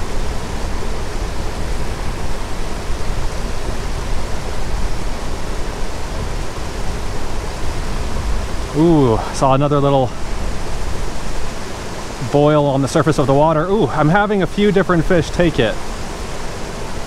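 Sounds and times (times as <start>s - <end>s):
small waterfall rushing: 0.0s - 17.0s.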